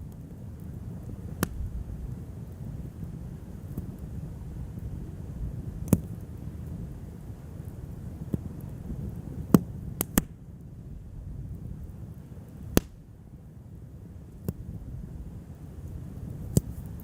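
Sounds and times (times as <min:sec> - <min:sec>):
fire pops: 0:00.0 - 0:10.7, 0:11.4 - 0:13.1, 0:14.2 - 0:17.0
low steady rumble: 0:00.0 - 0:17.0
wood fire crackling: 0:00.0 - 0:17.0.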